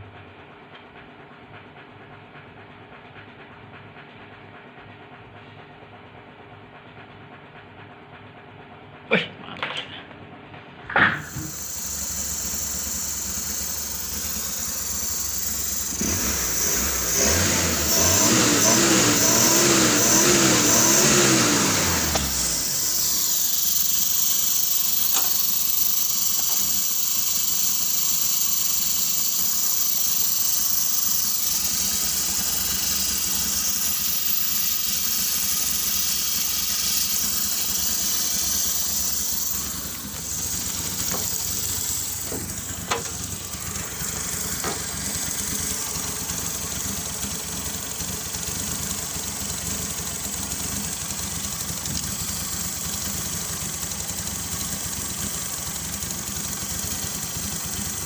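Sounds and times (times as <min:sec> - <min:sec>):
car engine revving and idling: 0:11.2 - 0:58.0.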